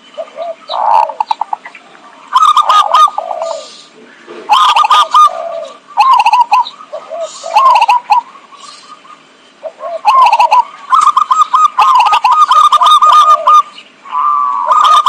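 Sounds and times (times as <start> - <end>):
doves cooing: 0.0 - 15.0.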